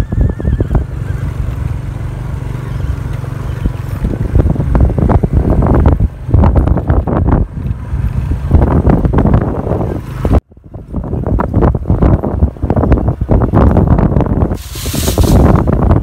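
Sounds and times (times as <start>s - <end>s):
motorcycle engine running: 0.0s - 14.5s
wind buffeting microphone: 0.0s - 16.0s.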